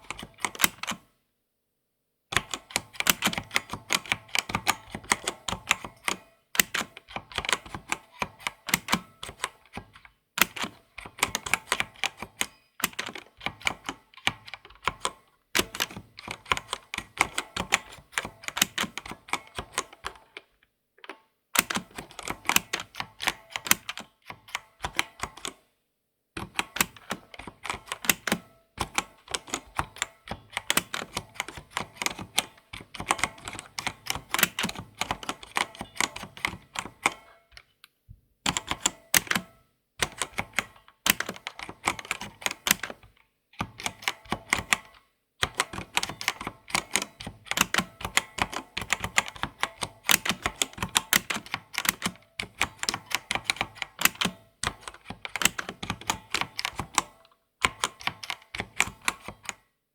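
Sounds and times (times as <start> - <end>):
typing on computer keyboard: 0.0 - 1.0, 2.3 - 25.7, 26.4 - 37.7, 38.5 - 59.7.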